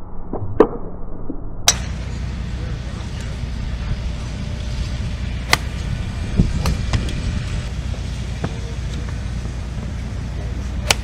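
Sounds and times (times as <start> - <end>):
steady low rumble: 0.0 - 11.0
golf clubs striking balls: 1.7 - 11.0.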